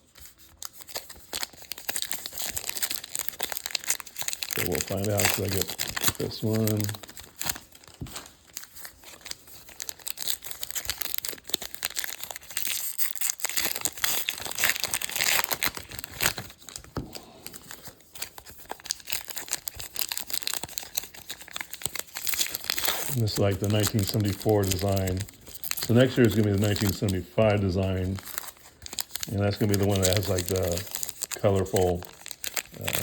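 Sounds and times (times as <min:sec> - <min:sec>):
wrapper crinkling: 0:00.0 - 0:33.0
card pack torn open: 0:00.1 - 0:33.0.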